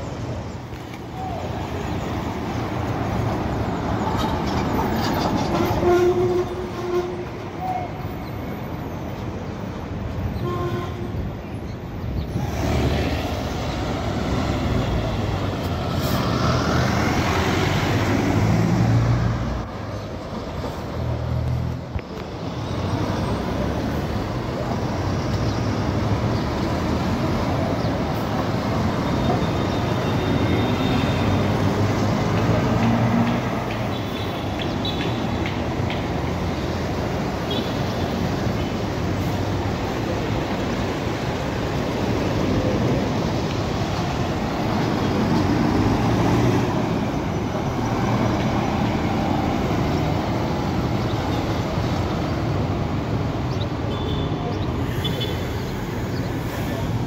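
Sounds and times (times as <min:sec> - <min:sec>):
bus engine rumble: 0:00.0 - 0:53.6, 0:54.4 - 0:57.0
street traffic passing: 0:00.0 - 0:57.0.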